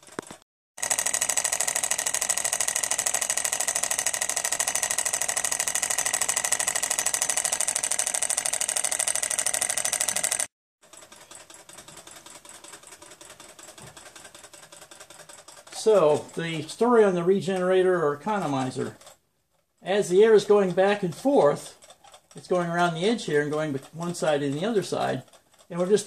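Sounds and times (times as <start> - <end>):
model engine clattering: 0.0 - 19.2, 20.0 - 26.0.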